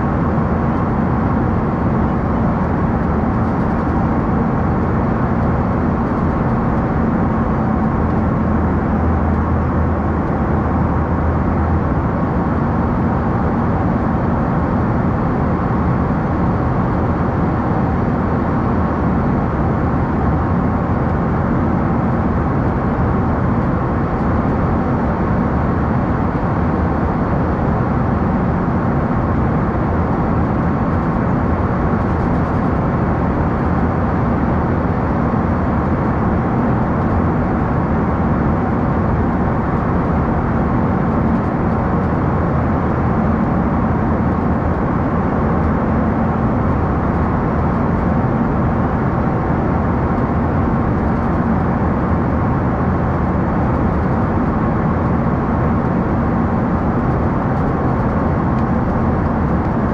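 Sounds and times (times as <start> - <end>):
jet cabin engine and airflow noise: 0.0 - 59.9.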